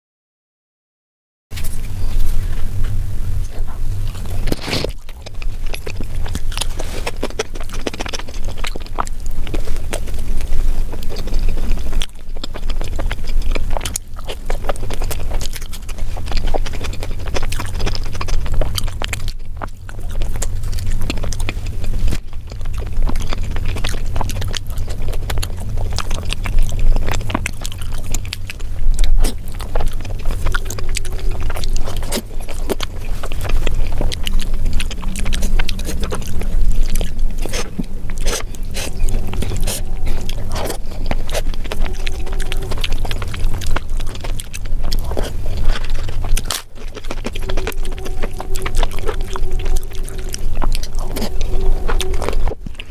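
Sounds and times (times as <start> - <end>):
food being chewed: 1.5 - 52.9
heavy low rumble: 1.5 - 52.9.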